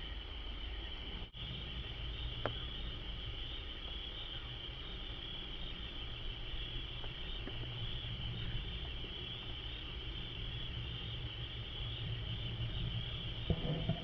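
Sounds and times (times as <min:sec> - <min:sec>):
insects chirring: 0:00.0 - 0:14.0
low rumble: 0:01.2 - 0:14.0.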